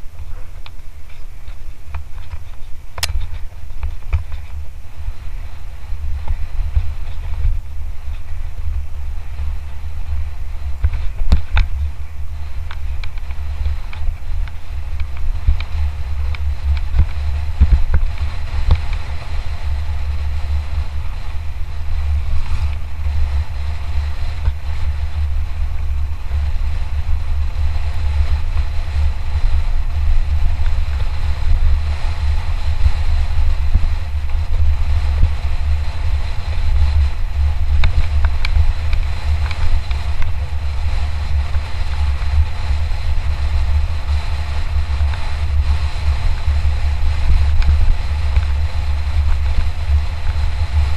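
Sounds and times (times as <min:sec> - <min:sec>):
bike clicks and rattles: 0:00.0 - 0:50.9
wind buffeting microphone: 0:00.0 - 0:50.9.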